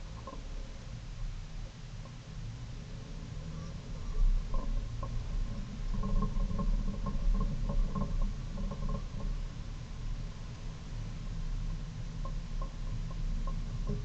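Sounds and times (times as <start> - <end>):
light clicks and rattles: 0.0 - 1.0, 3.6 - 14.0.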